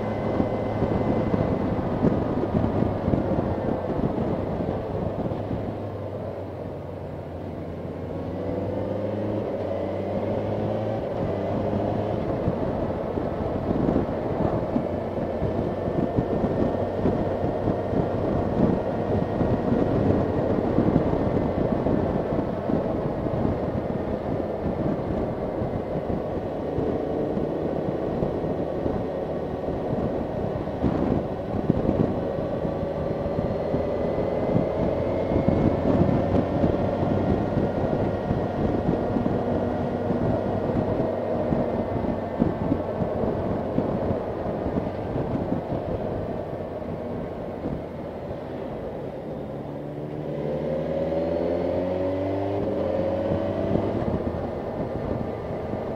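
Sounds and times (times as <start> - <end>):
motorcycle engine running: 0.0 - 55.9
wind noise on microphone: 0.0 - 55.9.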